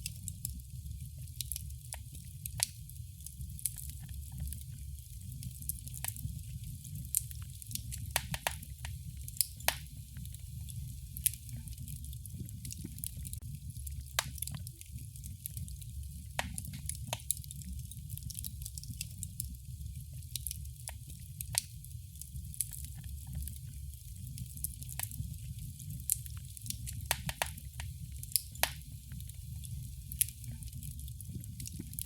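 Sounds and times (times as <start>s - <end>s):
low rumble of burning: 0.0s - 32.0s
wood fire crackling and popping: 0.0s - 32.0s.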